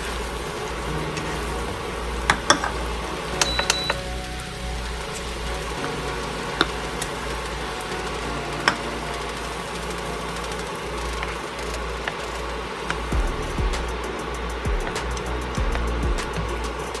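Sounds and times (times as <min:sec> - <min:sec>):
low hum: 0:00.0 - 0:16.9
butter and garlic sizzling: 0:00.0 - 0:17.0.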